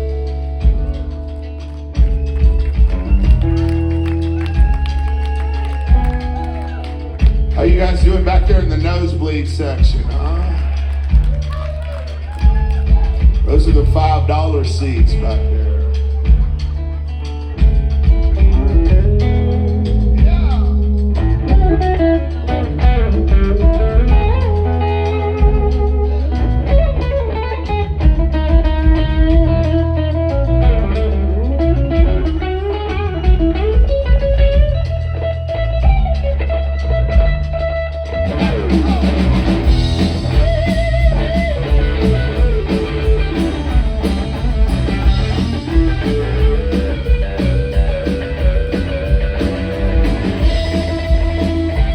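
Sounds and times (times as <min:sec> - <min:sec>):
electric guitar bending notes: 0:00.0 - 0:51.9
live blues rock band: 0:00.0 - 0:51.9.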